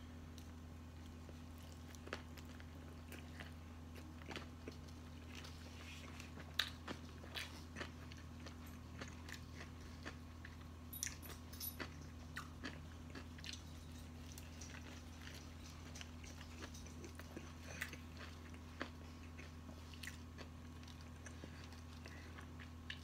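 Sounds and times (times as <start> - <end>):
steady low hum: 0.0 - 23.0
person chewing food: 0.3 - 23.0.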